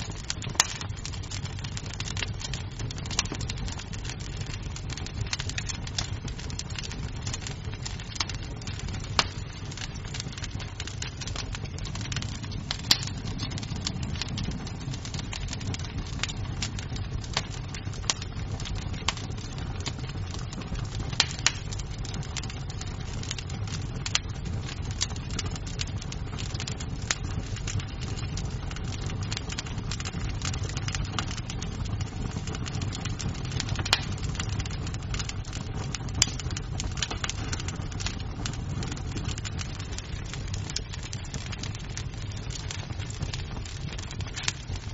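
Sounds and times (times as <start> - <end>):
burning wood snapping and popping: 0.0 - 44.9
low rumble of flame: 0.0 - 44.9.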